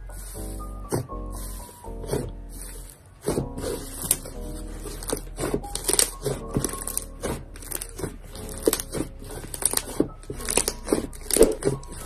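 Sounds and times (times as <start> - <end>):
quiet background music: 0.0 - 12.0
slime squishing and crackling: 0.0 - 12.0.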